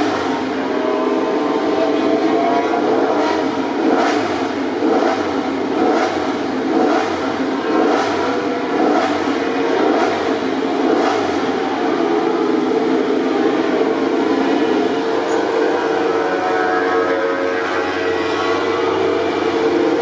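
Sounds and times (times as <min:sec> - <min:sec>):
racing motorcycle engines: 0:00.0 - 0:20.0.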